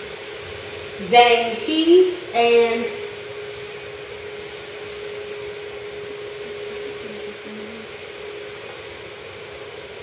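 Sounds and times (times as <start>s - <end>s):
ventilation hum and hiss: 0.0s - 10.0s.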